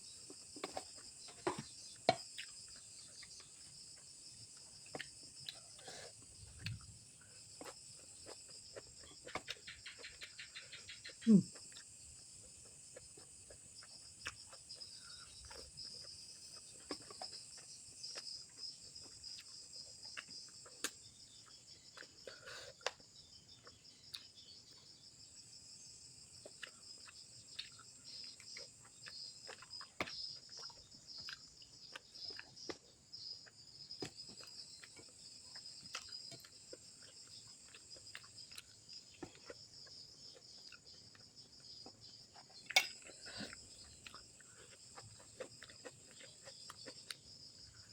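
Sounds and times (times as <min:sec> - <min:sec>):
insects chirring: 0:00.0 - 0:47.9
person chewing food: 0:00.0 - 0:47.9.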